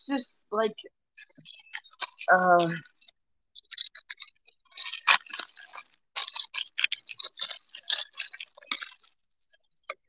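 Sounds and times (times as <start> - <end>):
plastic packaging crinkling: 1.2 - 10.0.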